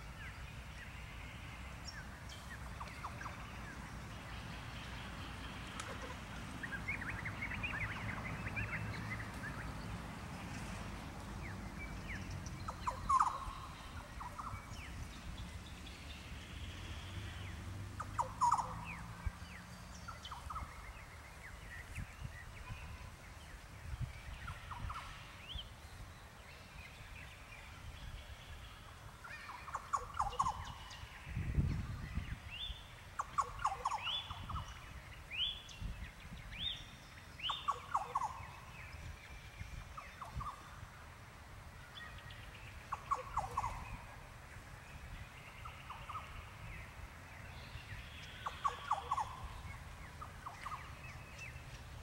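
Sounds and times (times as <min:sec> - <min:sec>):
birds calling: 0:00.0 - 0:52.0.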